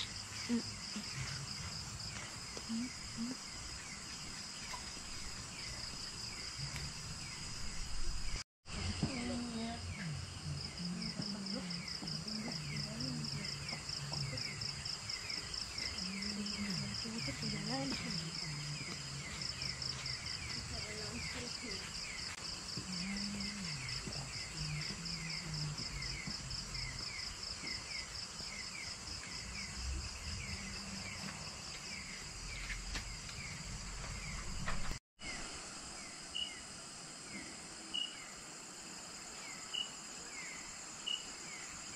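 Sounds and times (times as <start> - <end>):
insects pulsing trill: 0.0 - 41.9.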